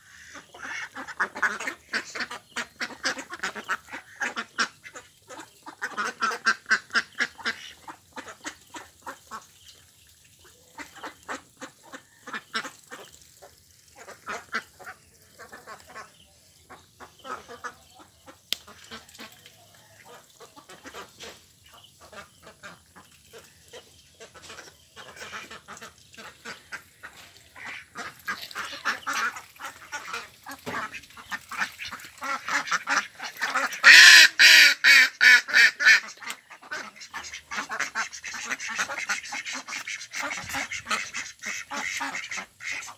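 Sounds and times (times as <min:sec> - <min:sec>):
ducks quacking: 0:00.0 - 0:09.8, 0:10.4 - 0:42.9.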